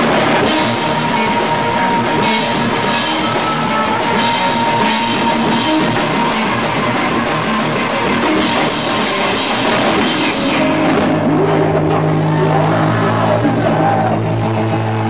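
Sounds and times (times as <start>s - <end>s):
heavy rock band playing: 0.0s - 15.0s.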